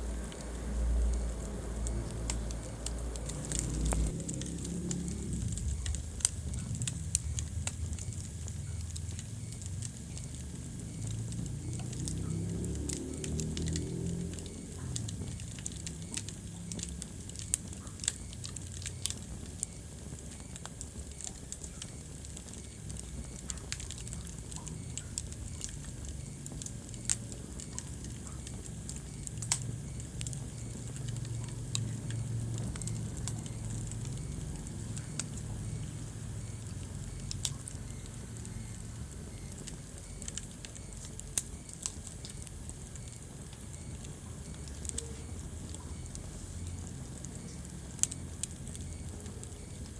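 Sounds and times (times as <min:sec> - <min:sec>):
fire pops and snaps: 0:00.0 - 0:49.9
low rumble of burning: 0:00.0 - 0:49.9.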